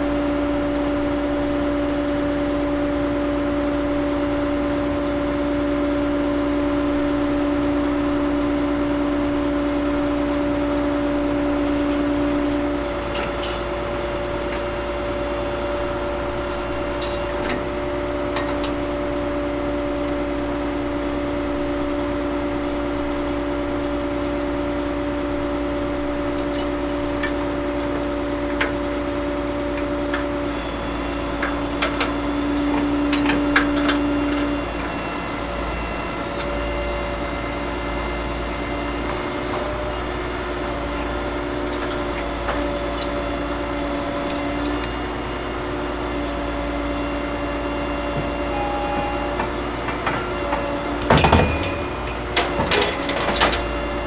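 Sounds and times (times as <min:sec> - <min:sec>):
heavy equipment engines humming: 0:00.0 - 0:54.0.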